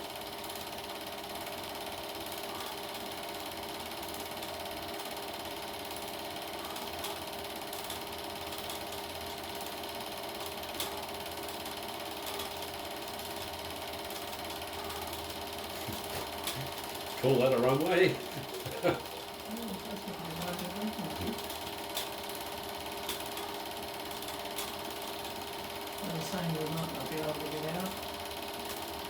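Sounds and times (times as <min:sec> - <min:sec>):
film projector whirring clatter: 0:00.0 - 0:29.0.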